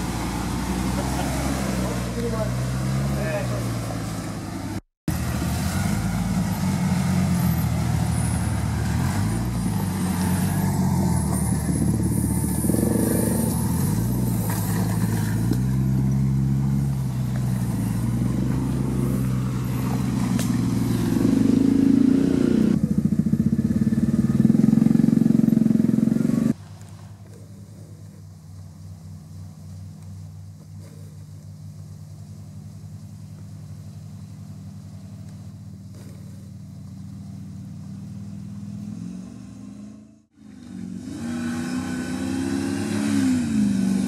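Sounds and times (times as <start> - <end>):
off-road vehicle engine revving: 0.0 - 26.6, 33.7 - 44.0.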